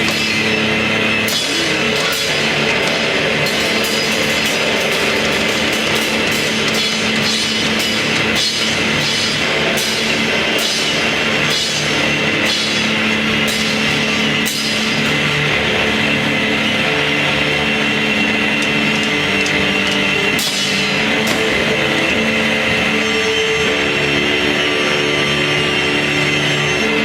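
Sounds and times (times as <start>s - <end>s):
rock band playing loudly: 0.0s - 25.2s
cymbal crashes: 0.0s - 26.4s.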